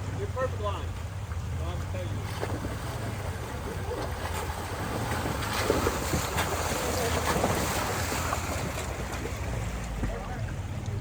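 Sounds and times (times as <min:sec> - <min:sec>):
off-road vehicle engine running: 0:00.0 - 0:11.0
wind buffeting microphone: 0:01.1 - 0:11.0.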